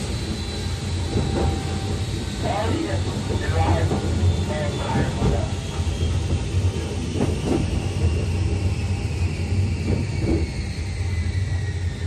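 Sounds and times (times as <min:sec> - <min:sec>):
electric train hum: 0:00.0 - 0:12.0.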